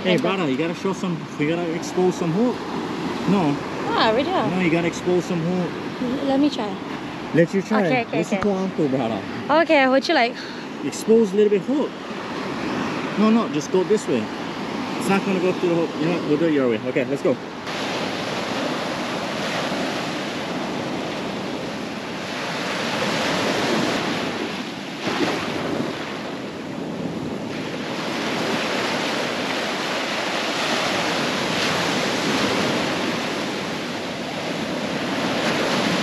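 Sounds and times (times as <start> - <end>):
ocean surf on beach: 0.0 - 36.0.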